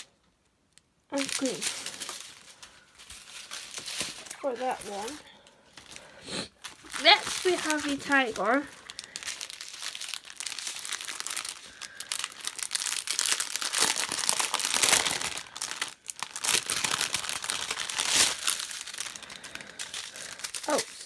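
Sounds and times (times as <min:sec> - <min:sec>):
plastic packaging crinkling: 0:01.1 - 0:21.0.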